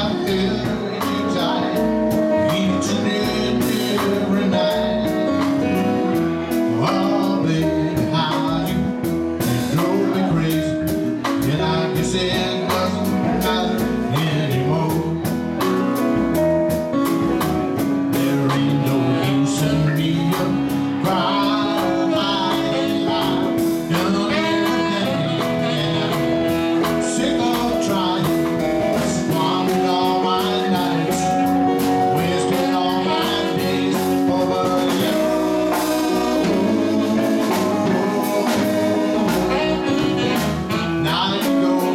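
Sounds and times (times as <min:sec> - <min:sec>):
blues band playing: 0:00.0 - 0:41.9
man singing: 0:00.0 - 0:41.9
saxophone lead: 0:00.0 - 0:41.9.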